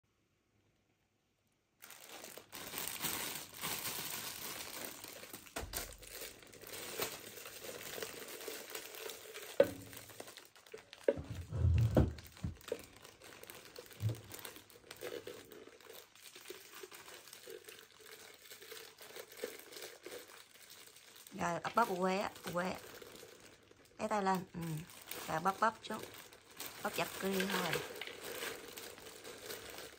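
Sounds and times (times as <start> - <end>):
plastic bag crinkling: 1.8 - 29.9
popcorn pouring into plastic jar: 1.8 - 29.9.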